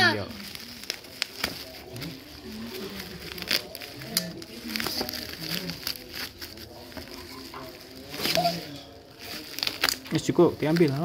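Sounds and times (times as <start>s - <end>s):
plastic bag and tape crinkling: 0.0s - 11.0s.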